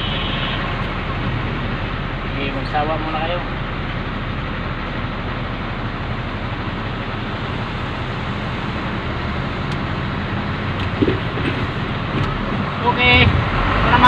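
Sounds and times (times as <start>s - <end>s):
road noise: 0.0s - 14.0s
truck engine running: 0.0s - 14.0s.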